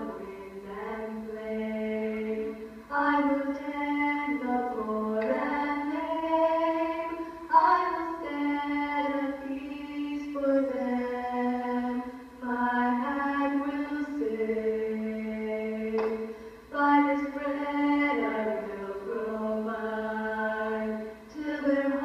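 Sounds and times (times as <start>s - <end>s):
girls singing through tv speaker: 0.0s - 22.0s.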